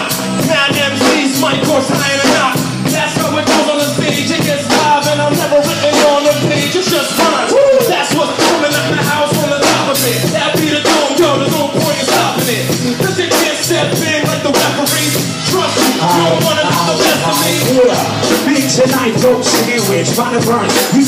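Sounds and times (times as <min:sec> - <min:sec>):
hip hop beat: 0:00.0 - 0:21.0.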